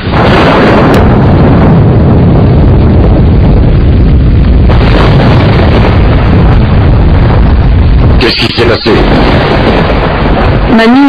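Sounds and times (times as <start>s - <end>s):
heavy rain: 0.0s - 11.0s
rolling thunder: 0.0s - 11.0s
sharp thunder crack: 0.0s - 11.0s.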